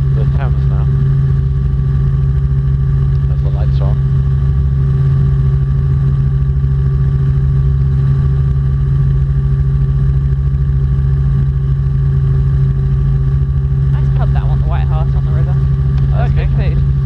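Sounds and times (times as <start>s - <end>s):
helicopter engine and rotors droning: 0.0s - 17.0s.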